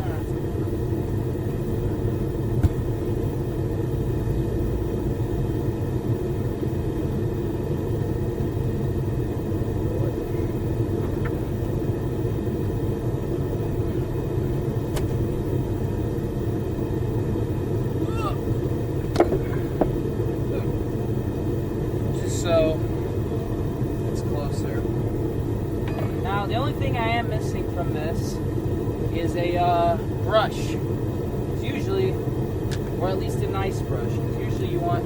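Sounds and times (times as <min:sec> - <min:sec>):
gas forge burners rushing: 0:00.0 - 0:35.0.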